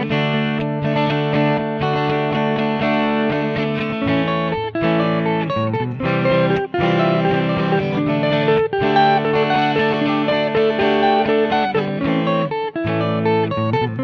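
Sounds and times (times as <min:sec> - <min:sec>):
electric guitar with effects: 0:00.0 - 0:14.0.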